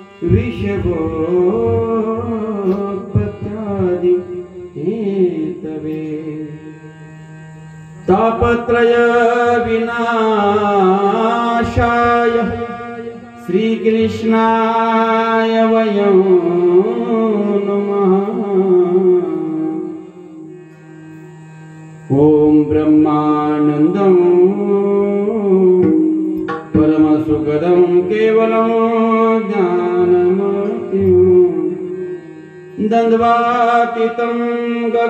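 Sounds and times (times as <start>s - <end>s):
man singing into a microphone: 0.0s - 7.1s, 8.0s - 20.6s, 22.0s - 35.0s
steady low drone tone: 0.0s - 35.0s.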